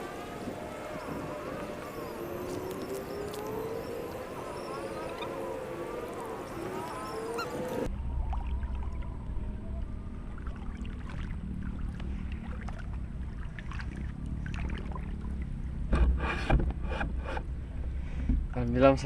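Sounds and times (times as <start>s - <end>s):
low wind rumble on microphone: 0.0s - 19.0s.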